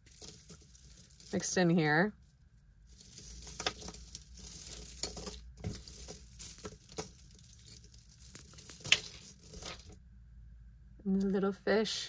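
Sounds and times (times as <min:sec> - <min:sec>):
jewelry clinking: 0:00.0 - 0:10.0.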